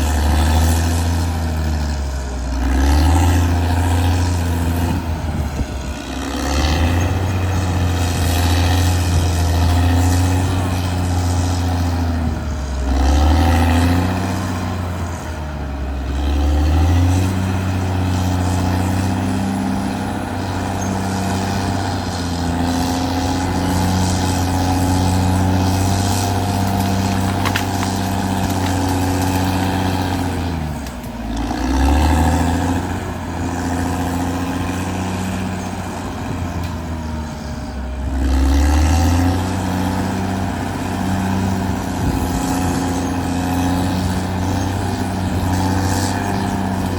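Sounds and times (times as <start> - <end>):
bulldozer diesel engine under load: 0.0 - 46.9.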